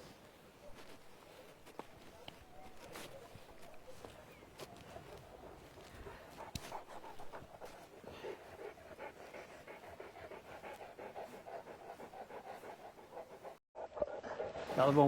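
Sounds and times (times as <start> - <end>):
dog panting: 0.7 - 15.0.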